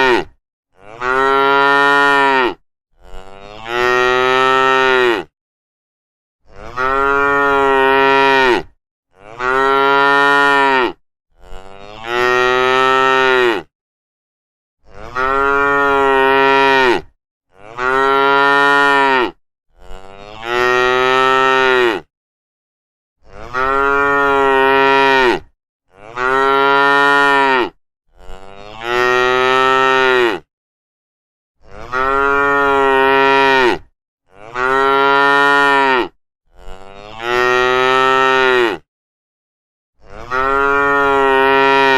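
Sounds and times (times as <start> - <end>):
cattle mooing: 0.0 - 5.3, 6.5 - 13.7, 14.9 - 22.1, 23.3 - 30.5, 31.6 - 38.8, 40.1 - 41.9.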